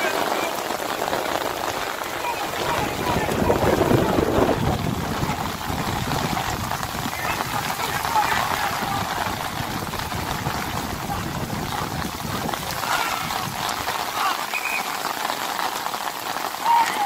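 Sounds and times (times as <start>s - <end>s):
distant shouts: 0.0s - 11.8s, 12.6s - 15.4s, 16.5s - 17.0s
heavy rain: 0.0s - 17.0s.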